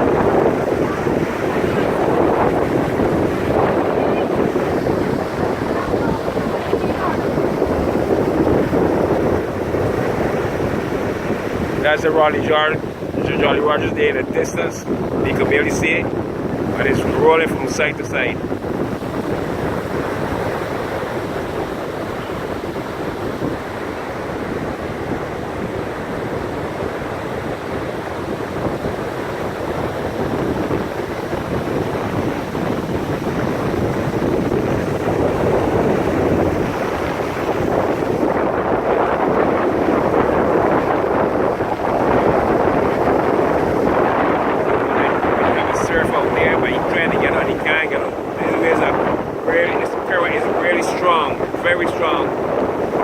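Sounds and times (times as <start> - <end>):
storm surf breaking on beach: 0.0 - 53.0
wind buffeting microphone: 0.0 - 53.0.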